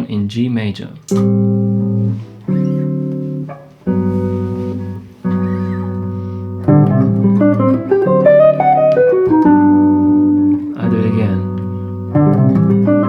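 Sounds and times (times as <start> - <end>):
jazz guitar chords: 1.0 - 13.0.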